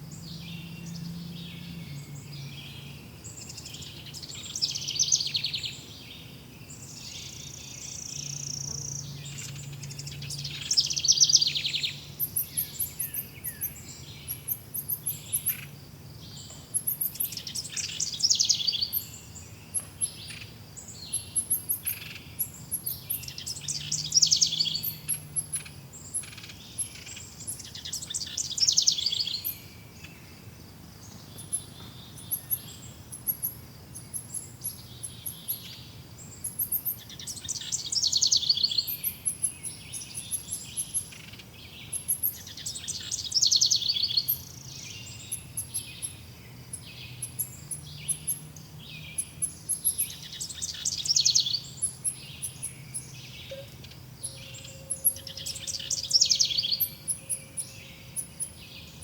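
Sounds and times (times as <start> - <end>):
birds singing trilled phrases: 0.1 - 59.0
thin high bird chirping: 3.3 - 5.7, 6.8 - 29.7, 31.2 - 59.0.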